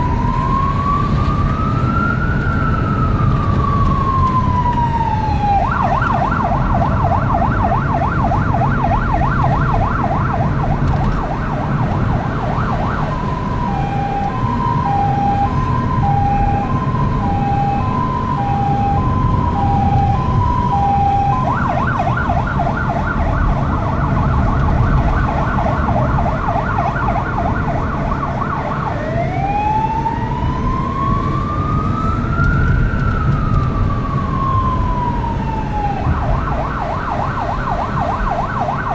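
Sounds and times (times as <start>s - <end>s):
engine and road noise: 0.0s - 38.9s
fire engine siren: 0.0s - 38.9s.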